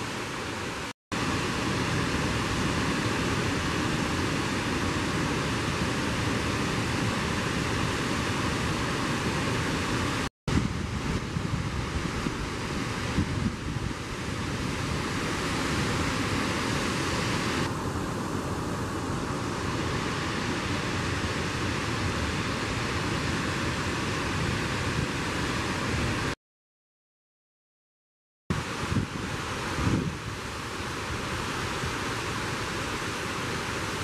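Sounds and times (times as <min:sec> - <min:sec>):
waterfall rushing: 0:00.0 - 0:26.4, 0:28.5 - 0:34.0.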